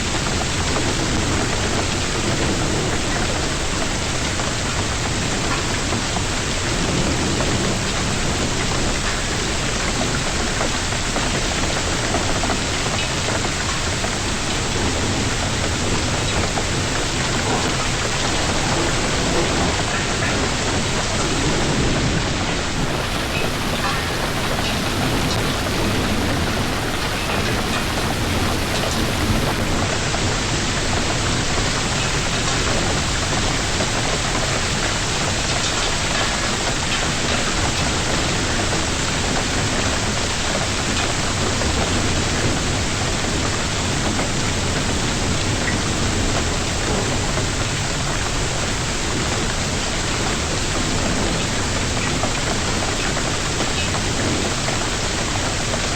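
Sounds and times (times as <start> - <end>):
heavy rain and hail hitting surfaces: 0.0 - 55.9.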